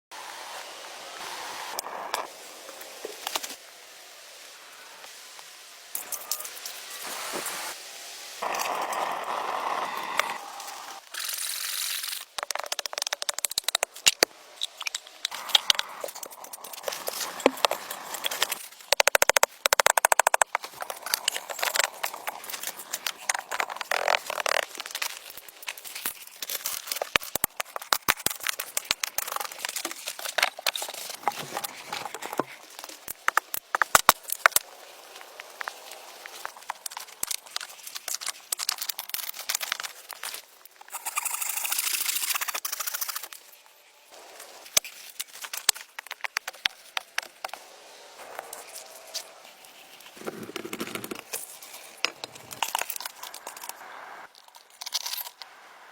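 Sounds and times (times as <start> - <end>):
dry branches and leaves crackling: 0.2 - 55.9.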